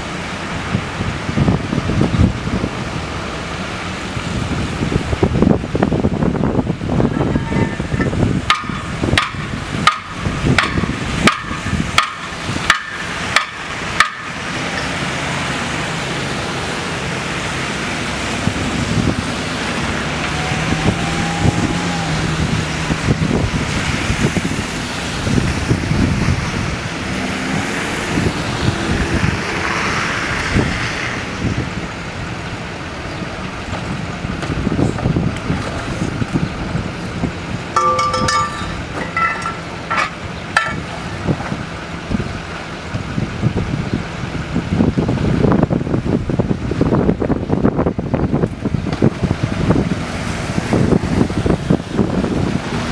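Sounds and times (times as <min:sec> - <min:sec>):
wind on microphone: 0:00.0 - 0:14.0, 0:14.9 - 0:52.9
vehicles passing: 0:00.0 - 0:52.9.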